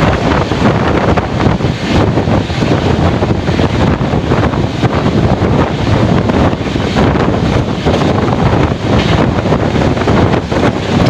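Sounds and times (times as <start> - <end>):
passenger train rumbling: 0.0 - 11.0
wind buffeting microphone: 0.0 - 11.0.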